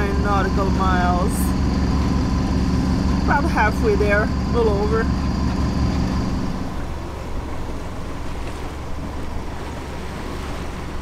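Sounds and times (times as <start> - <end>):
boat engine humming: 0.0 - 11.0
wind and waves rushing: 0.0 - 11.0.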